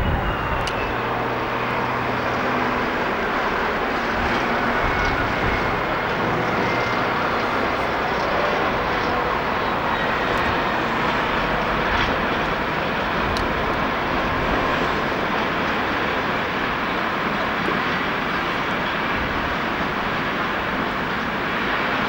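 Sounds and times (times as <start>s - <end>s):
diesel train roaring past: 0.0s - 22.0s.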